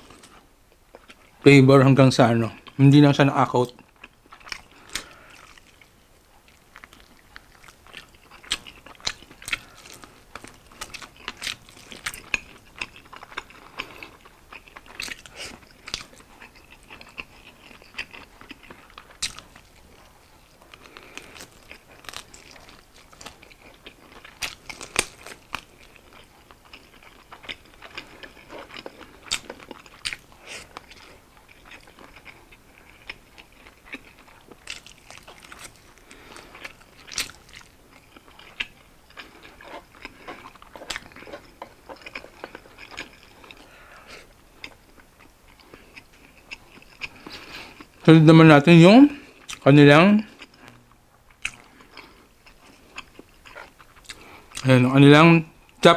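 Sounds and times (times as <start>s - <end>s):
quiet chewing: 0.0s - 1.4s, 3.7s - 48.1s, 49.1s - 54.7s
crunching fried chicken: 2.0s - 55.9s.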